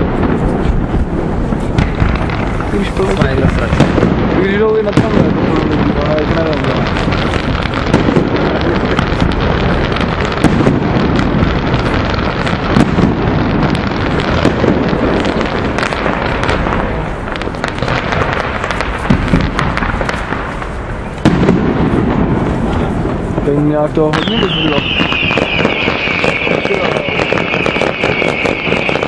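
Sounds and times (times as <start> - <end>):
fireworks crackling and banging: 0.0 - 29.0.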